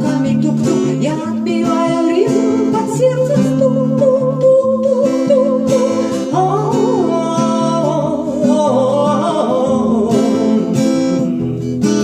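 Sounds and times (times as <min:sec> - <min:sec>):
woman singing wordless vocalise: 0:00.0 - 0:11.2
acoustic guitar strumming: 0:00.0 - 0:12.0.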